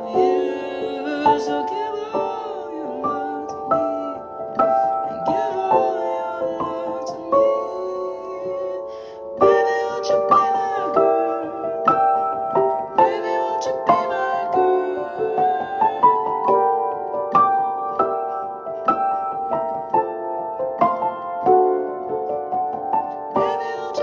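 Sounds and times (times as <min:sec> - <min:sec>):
slow piano playing: 0:00.0 - 0:24.0.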